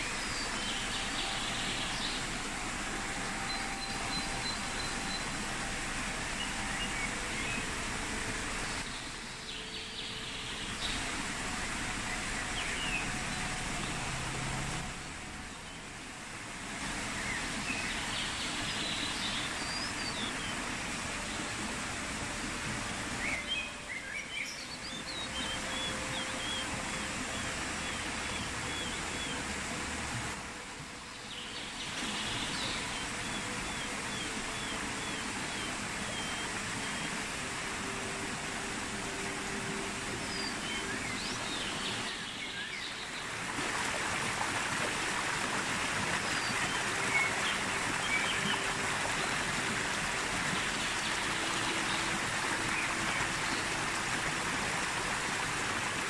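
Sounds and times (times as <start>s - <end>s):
flowing stream: 0.0s - 56.0s.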